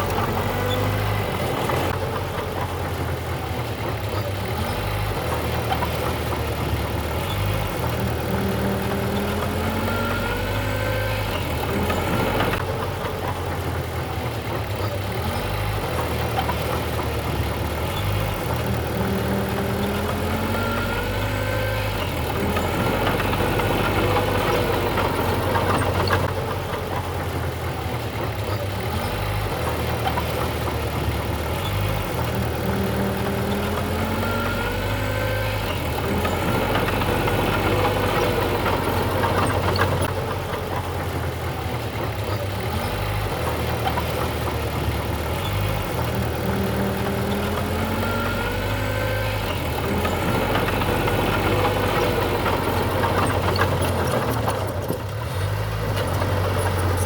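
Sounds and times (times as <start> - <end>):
construction machinery engine rumble: 0.0 - 57.0.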